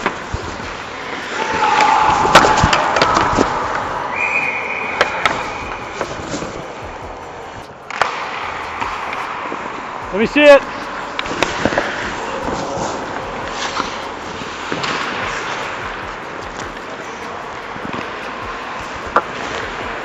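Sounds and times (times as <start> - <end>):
held tones: 0.0 - 20.0.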